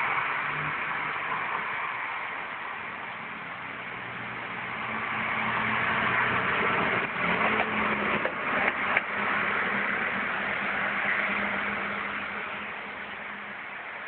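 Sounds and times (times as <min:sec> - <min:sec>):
steady hum and hiss: 0:00.0 - 0:14.0.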